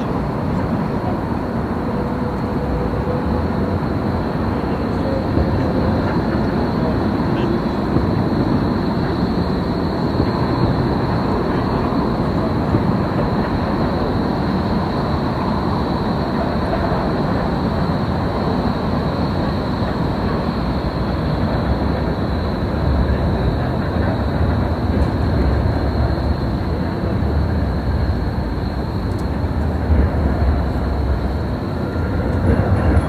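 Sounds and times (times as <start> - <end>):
rail noise: 0.0 - 33.0
traffic noise: 0.0 - 33.0.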